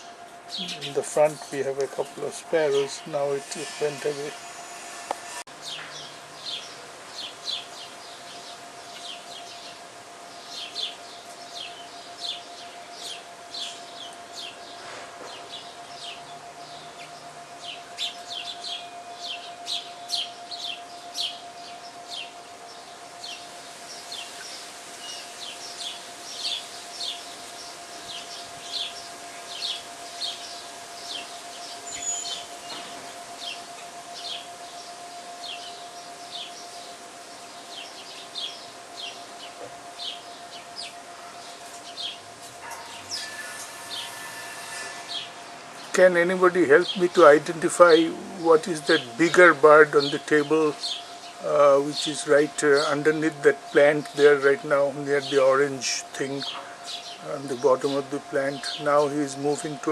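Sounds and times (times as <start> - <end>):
sparrows chirping: 0.0 - 59.9
steady hum: 0.0 - 59.9.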